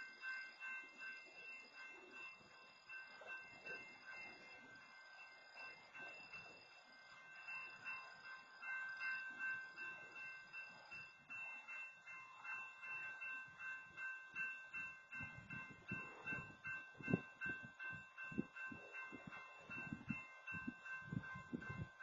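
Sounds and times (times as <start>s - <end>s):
crossing warning bell ringing: 0.0s - 22.0s.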